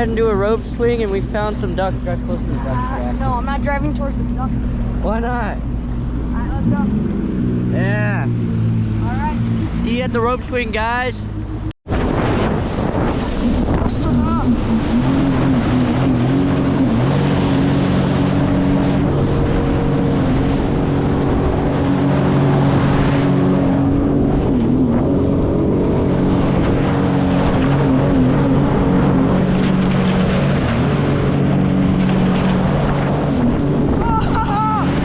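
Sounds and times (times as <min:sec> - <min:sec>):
jet ski engine droning: 0:00.0 - 0:35.0
water rushing: 0:00.0 - 0:35.0.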